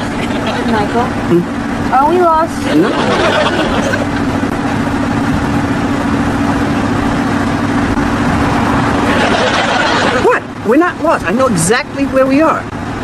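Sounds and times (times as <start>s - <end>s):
car driving with road noise: 0.0s - 13.0s.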